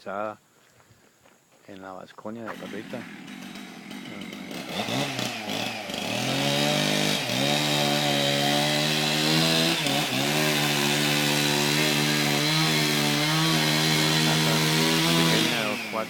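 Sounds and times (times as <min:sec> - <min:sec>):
small engine running: 0:02.4 - 0:16.0.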